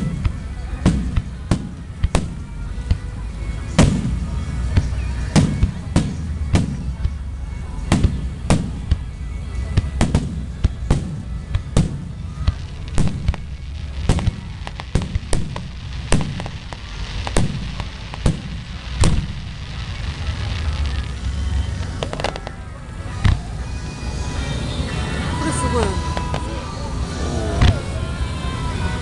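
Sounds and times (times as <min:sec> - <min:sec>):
fireworks booming: 0:00.0 - 0:24.0, 0:25.3 - 0:26.8, 0:27.4 - 0:28.9
music playing: 0:00.0 - 0:29.0.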